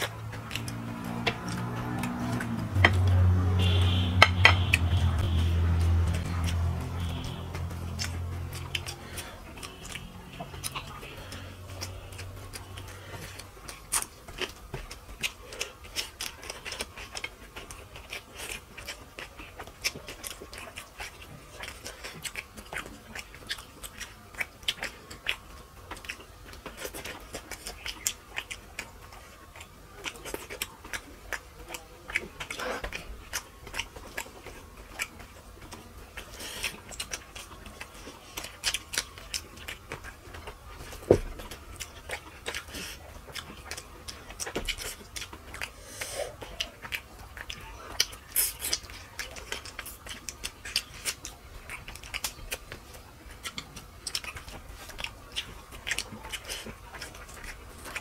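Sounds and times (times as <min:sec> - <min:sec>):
people chewing and lip-smacking: 0:00.0 - 0:58.0.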